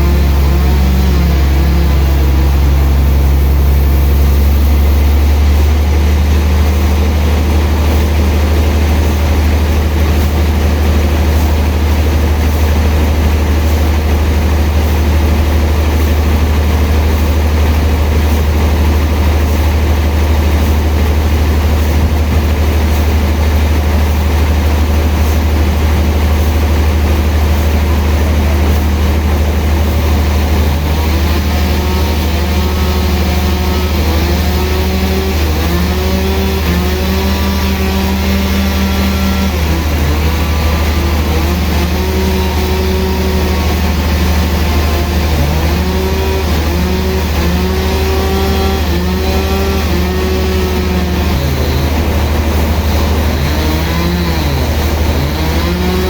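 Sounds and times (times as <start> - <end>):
sawmill machinery sawing log: 0.0 - 56.0.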